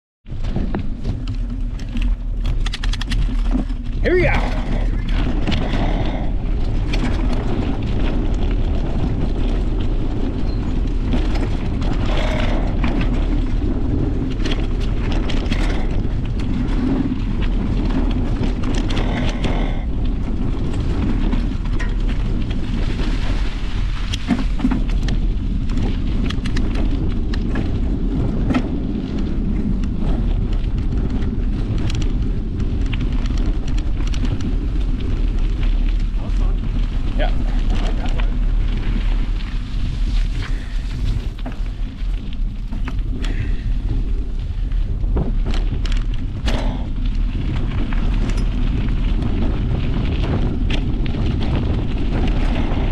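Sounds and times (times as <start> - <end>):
wind rumble on microphone: 0.2 - 52.9
bike clicks and rattles: 0.3 - 52.9
tyres rolling on dirt trail: 0.3 - 52.9.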